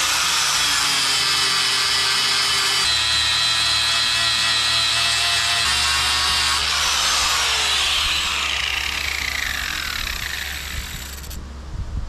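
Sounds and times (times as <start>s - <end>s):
angle grinder spinning down: 0.0s - 11.4s.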